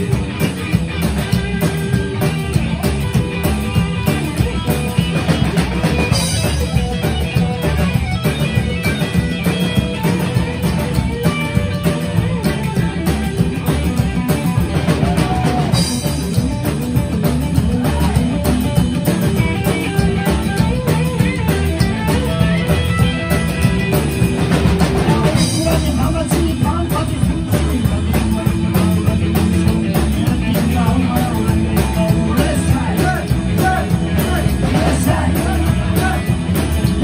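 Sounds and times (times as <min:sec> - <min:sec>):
drum kit: 0:00.0 - 0:37.0
electric guitar: 0:00.0 - 0:37.0
upright double bass: 0:00.0 - 0:37.0.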